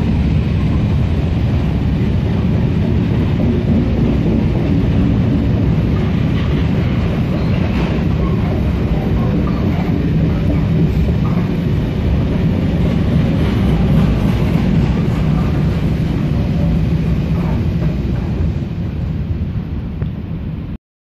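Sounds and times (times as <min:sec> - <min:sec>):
freight train rolling past: 0:00.0 - 0:20.7.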